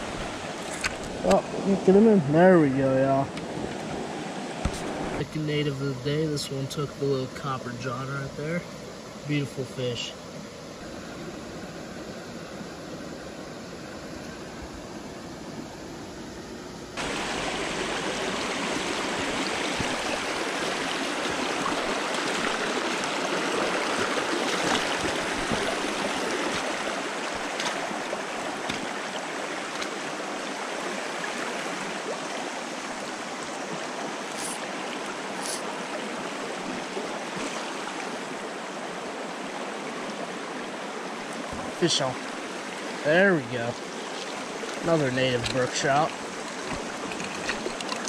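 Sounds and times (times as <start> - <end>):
stream running over rocks: 0.0 - 11.0, 17.0 - 48.0.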